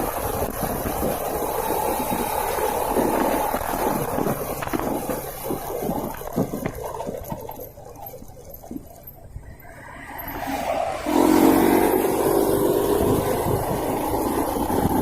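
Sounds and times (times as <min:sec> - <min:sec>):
motorcycle engine running: 0:00.0 - 0:09.5, 0:11.1 - 0:15.0
wind and road noise: 0:00.0 - 0:15.0.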